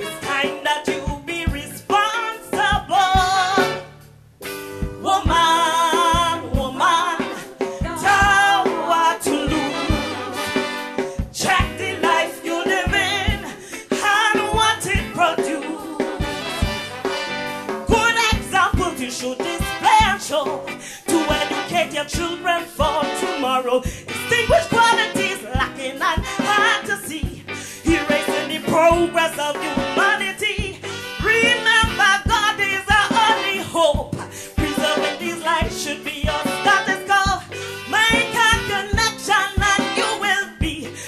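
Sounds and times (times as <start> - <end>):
calypso music with singer and band: 0.0 - 41.0.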